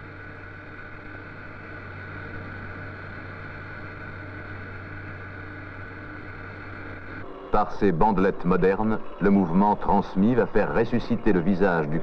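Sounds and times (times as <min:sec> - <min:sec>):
motor hum and hiss: 0:00.0 - 0:12.0.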